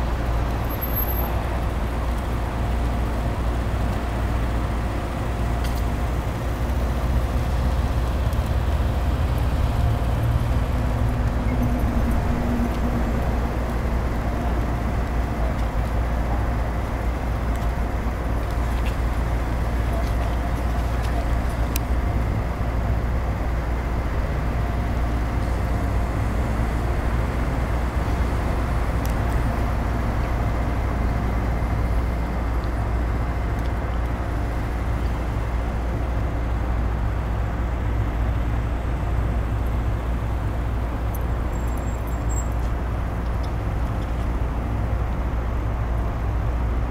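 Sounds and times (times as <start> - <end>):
city traffic rumble: 0.0 - 46.9.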